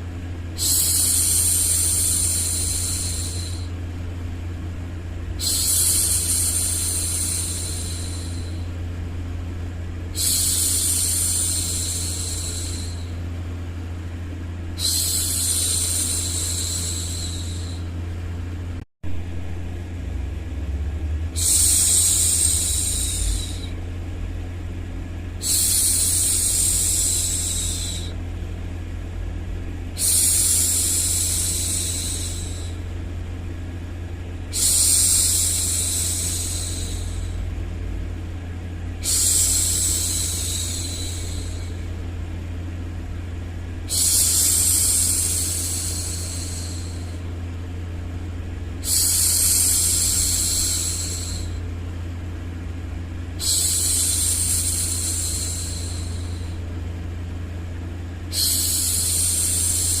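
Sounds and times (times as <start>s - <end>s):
low hum: 0.0s - 60.0s.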